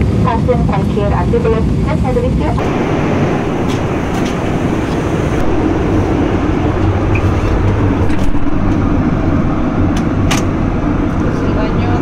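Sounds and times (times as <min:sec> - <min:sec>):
airliner cabin engine rush: 0:00.0 - 0:12.0.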